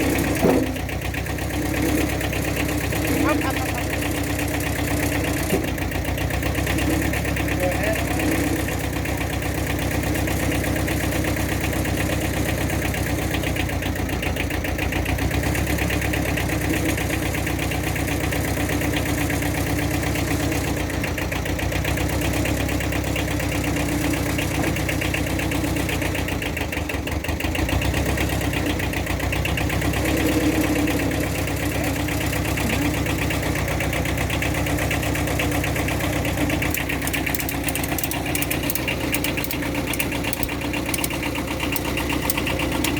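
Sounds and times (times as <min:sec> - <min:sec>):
dozer engine idling: 0:00.0 - 0:42.9.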